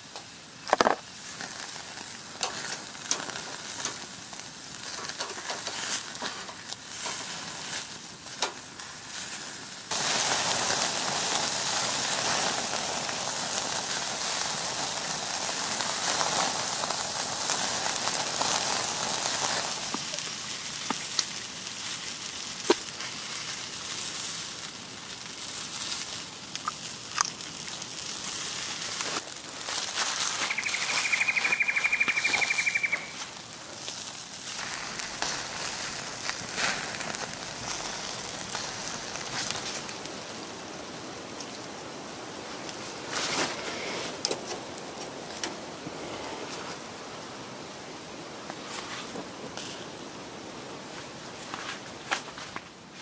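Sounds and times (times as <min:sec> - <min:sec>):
burger patties sizzling on grill: 0:00.0 - 0:47.8
fire crackling: 0:00.0 - 0:53.0.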